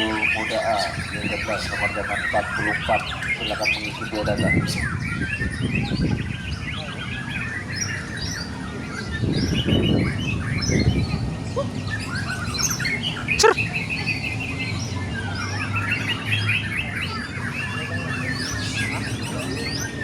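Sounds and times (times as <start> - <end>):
birds singing in chorus: 0.0 - 20.0.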